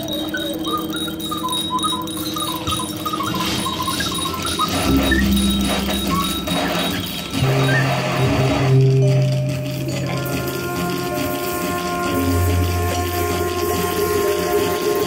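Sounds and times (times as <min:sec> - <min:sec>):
high chirping notes: 0:00.0 - 0:15.0
low sustained tone: 0:00.0 - 0:15.0
steady drone: 0:00.0 - 0:15.0.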